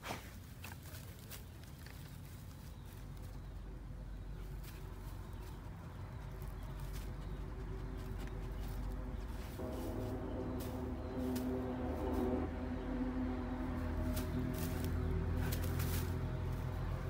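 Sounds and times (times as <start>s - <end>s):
grass rustling and crackling: 0.0s - 17.0s
steady low rumble: 1.4s - 17.0s.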